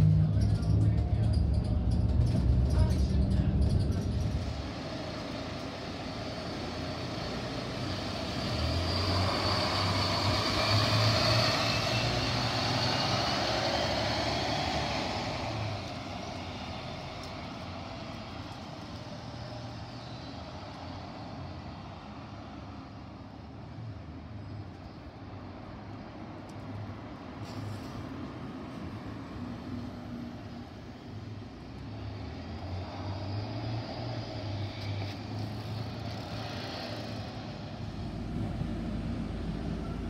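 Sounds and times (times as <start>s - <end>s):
bus engine hum and whine: 0.0s - 40.0s
distant bus passing: 0.0s - 40.0s
traffic noise: 0.0s - 40.0s.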